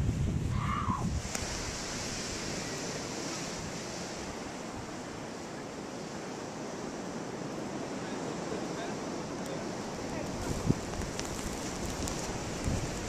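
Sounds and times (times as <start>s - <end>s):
blizzard wind rushing: 0.0s - 13.0s.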